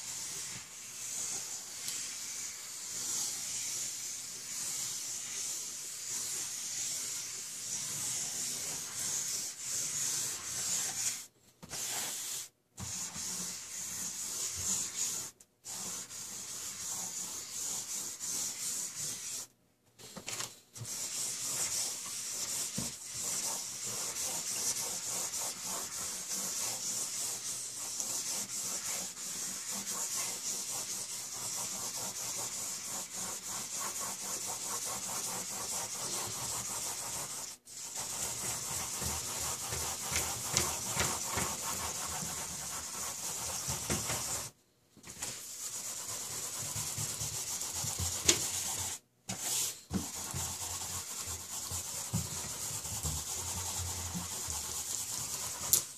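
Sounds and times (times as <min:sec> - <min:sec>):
markers scratching on paper: 0:00.1 - 0:20.1, 0:20.8 - 0:44.5, 0:45.2 - 0:55.9.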